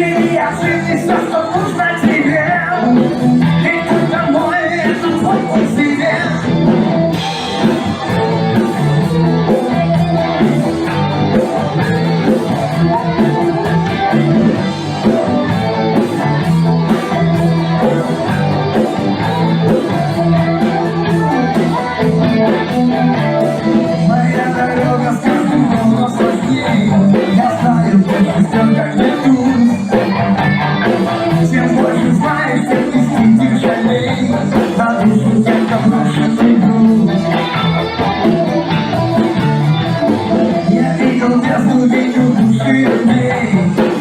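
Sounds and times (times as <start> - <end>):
guitar: 0.0 - 44.0
person singing: 0.0 - 44.0
rock band playing: 0.0 - 44.0.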